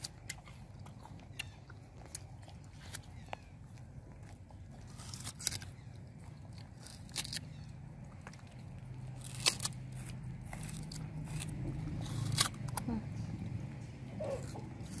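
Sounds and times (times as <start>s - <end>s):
low steady hum: 0.0s - 15.0s
monkeys chewing fruit clicks: 0.0s - 15.0s.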